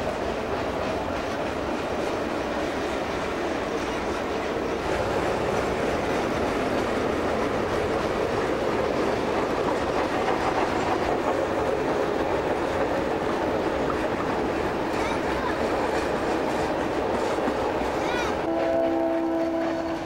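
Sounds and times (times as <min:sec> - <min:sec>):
train wheels rolling on rails: 0:00.0 - 0:20.0
wheels clacking over rail joints: 0:00.0 - 0:20.0.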